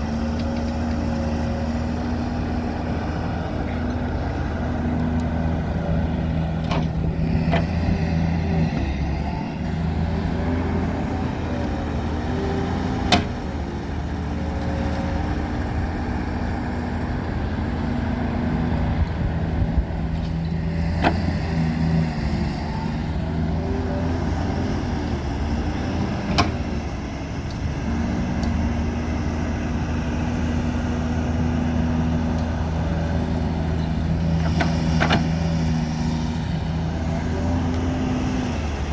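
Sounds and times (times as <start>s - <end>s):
diesel digger engine: 0.0s - 38.9s.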